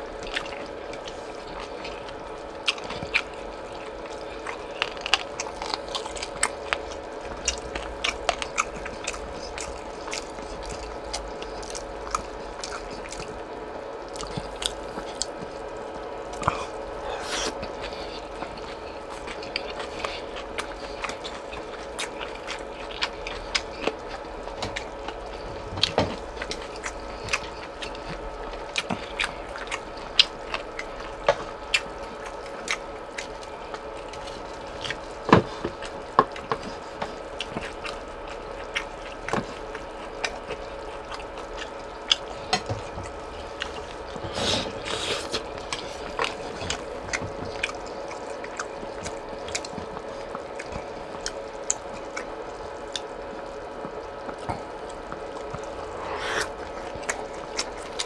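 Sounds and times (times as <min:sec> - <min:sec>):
faint steady hum: 0:00.0 - 0:58.0
person chewing: 0:00.1 - 0:13.4, 0:14.0 - 0:58.0.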